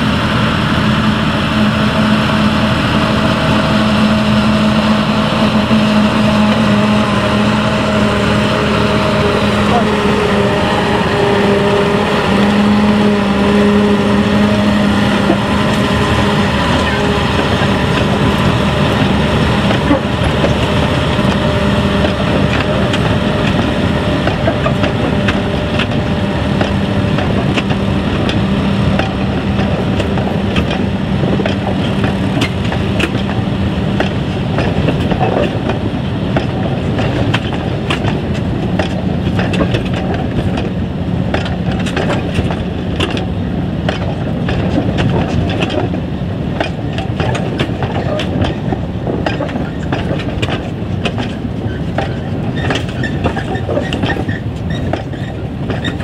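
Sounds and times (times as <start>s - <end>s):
diesel locomotive engine drone: 0.0s - 56.0s
train wheels clicking and clattering: 0.0s - 56.0s.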